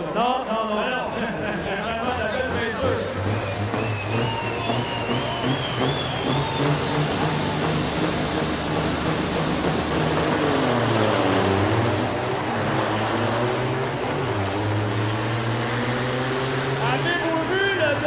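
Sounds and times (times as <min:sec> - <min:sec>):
diesel truck engines racing: 0:00.0 - 0:18.0
high whine rising in pitch: 0:01.7 - 0:17.6.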